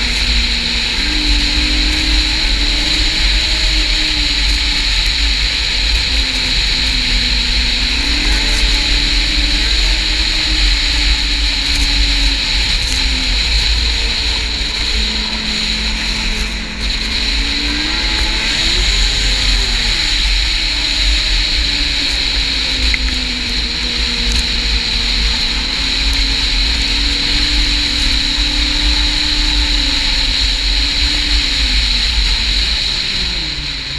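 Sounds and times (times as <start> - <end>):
snowmobile engine running: 0.0 - 33.9
wind rumble on microphone: 0.0 - 33.9.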